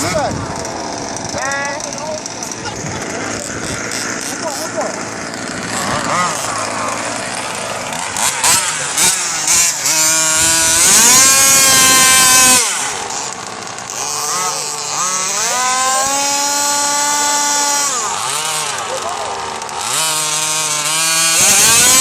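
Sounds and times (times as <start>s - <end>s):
small two-stroke engine revving: 0.0s - 22.0s.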